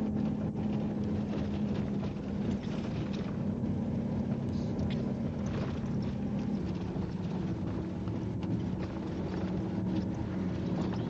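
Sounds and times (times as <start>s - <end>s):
road and wind noise: 0.0s - 11.0s
vehicle engine running: 0.0s - 11.0s.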